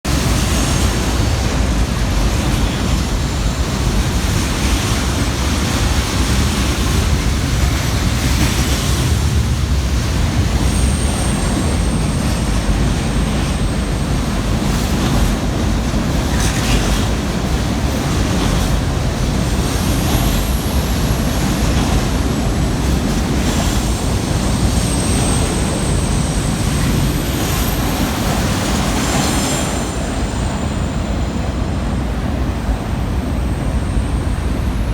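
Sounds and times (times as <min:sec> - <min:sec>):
freight train rumbling on rails: 0:00.0 - 0:34.9.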